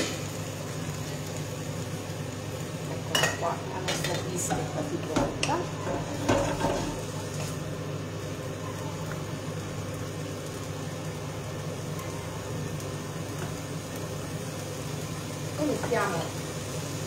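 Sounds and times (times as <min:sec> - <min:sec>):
extractor fan humming: 0:00.0 - 0:17.0.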